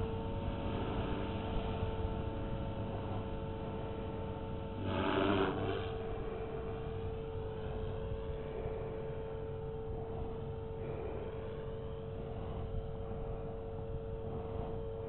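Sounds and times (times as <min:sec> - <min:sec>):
rc helicopter motor whine: 0:00.0 - 0:15.0
wind rumble on microphone: 0:00.0 - 0:15.0.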